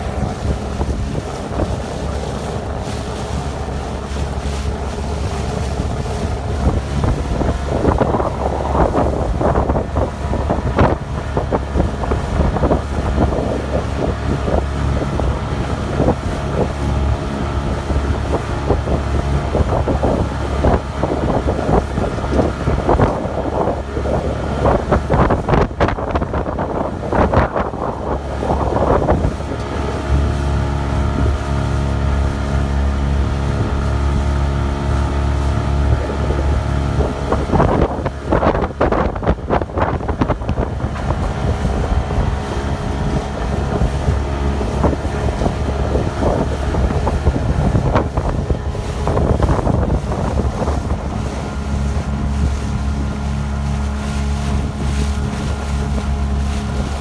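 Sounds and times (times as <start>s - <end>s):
boat motor humming: 0.0s - 57.0s
water splashing against hull: 0.0s - 57.0s
wind on microphone: 0.0s - 57.0s.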